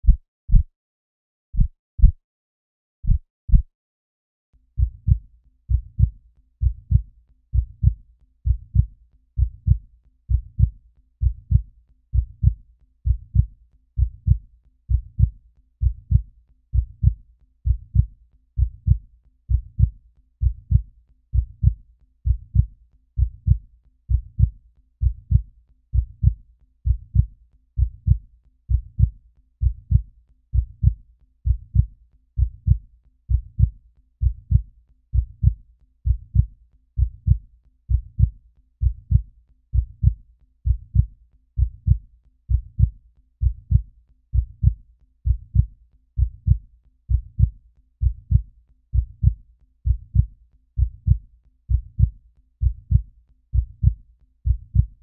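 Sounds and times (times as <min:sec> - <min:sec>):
human heartbeat: 0:00.0 - 0:00.7, 0:01.6 - 0:02.2, 0:03.0 - 0:03.7, 0:04.8 - 0:55.0.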